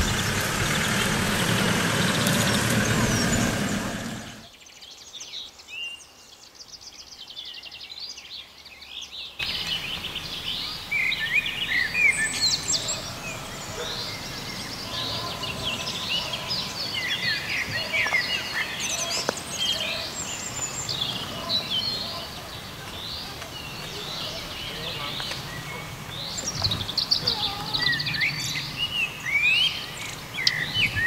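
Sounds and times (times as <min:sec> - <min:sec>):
faint outdoor hiss: 0:00.0 - 0:31.0
songbirds chirping: 0:00.0 - 0:31.0.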